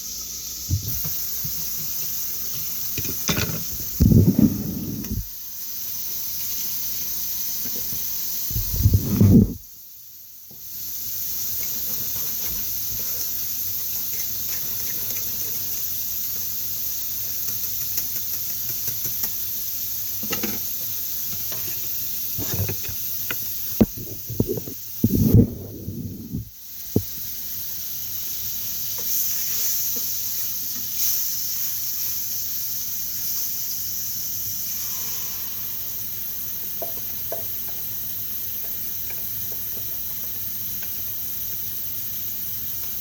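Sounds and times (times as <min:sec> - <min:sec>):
food sizzling in a frying pan: 0:00.0 - 0:25.1, 0:26.6 - 0:43.0.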